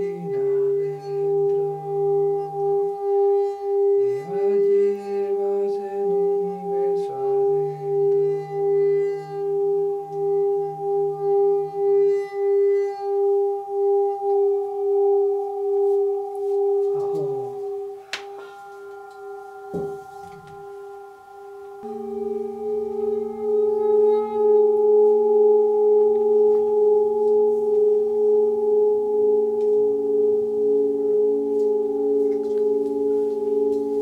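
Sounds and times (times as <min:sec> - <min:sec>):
low drone: 0:00.0 - 0:34.0
singing bowl ringing: 0:00.0 - 0:34.0.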